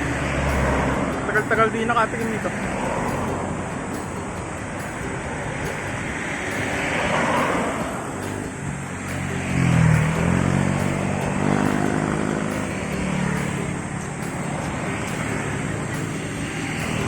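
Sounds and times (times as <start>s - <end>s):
vehicle engine passing by: 0.0s - 17.0s.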